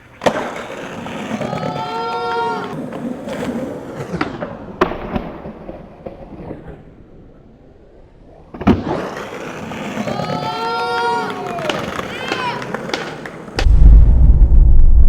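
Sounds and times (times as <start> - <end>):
loud skateboard crack: 0.0 - 7.0, 8.5 - 13.8
skateboard wheels rolling: 0.0 - 13.7.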